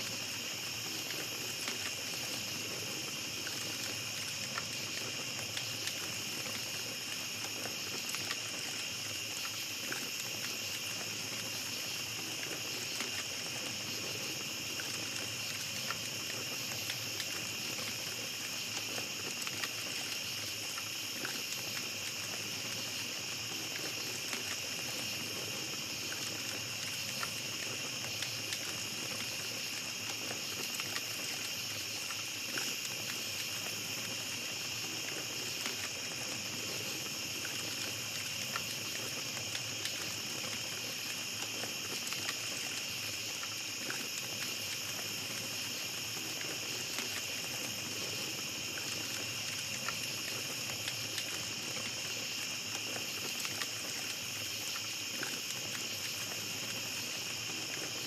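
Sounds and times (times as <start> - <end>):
campfire crackling: 0.0 - 58.0
night insects droning: 0.0 - 58.0.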